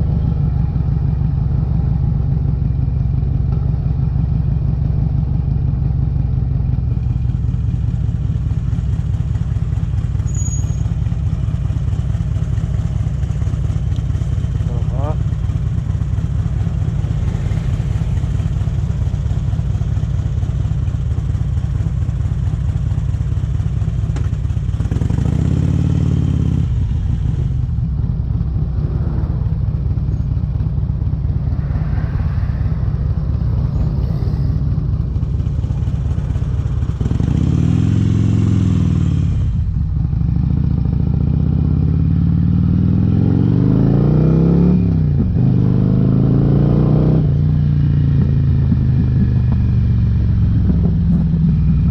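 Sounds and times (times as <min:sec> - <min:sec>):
motorcycle engine rumbling and revving: 0:00.0 - 0:51.9.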